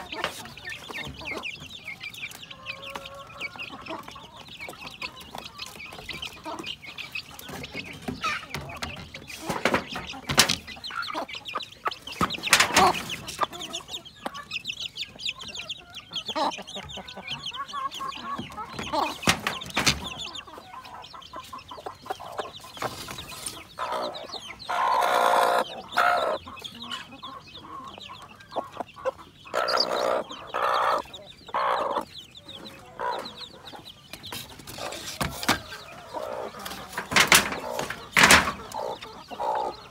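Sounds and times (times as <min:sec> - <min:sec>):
chickens clucking and calling: 0:00.0 - 0:39.9.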